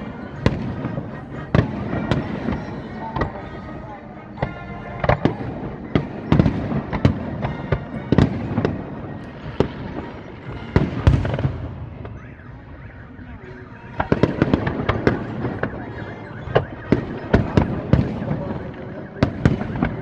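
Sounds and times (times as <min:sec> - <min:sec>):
fireworks bursting with sharp bangs: 0:00.0 - 0:20.0.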